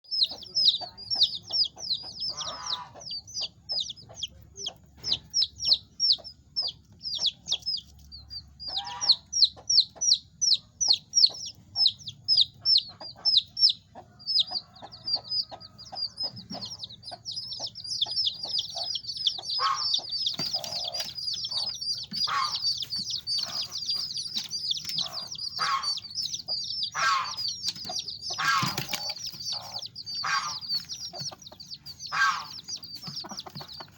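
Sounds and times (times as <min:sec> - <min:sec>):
chicks peeping: 0:00.0 - 0:33.9
chicken clucks: 0:00.1 - 0:33.9.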